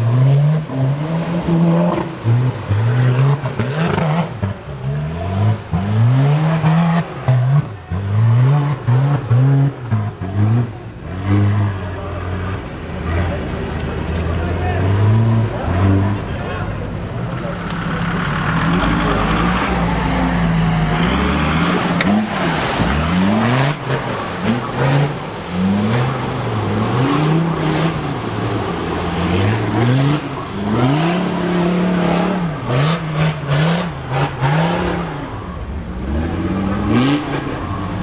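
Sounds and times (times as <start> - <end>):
engine revving: 0.0 - 16.3, 17.6 - 38.0.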